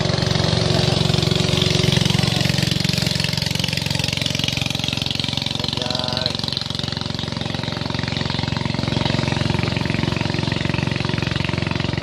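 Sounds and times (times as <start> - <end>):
small boat engine running: 0.0 - 12.0.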